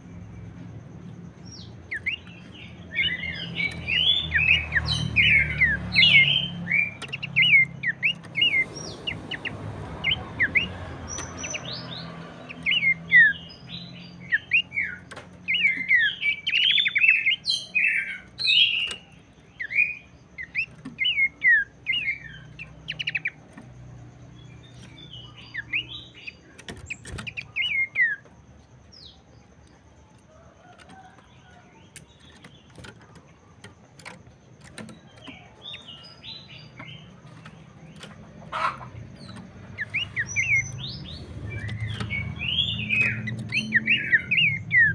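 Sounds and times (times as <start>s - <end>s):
bird chirping rapidly: 0.1s - 29.6s, 31.8s - 44.9s.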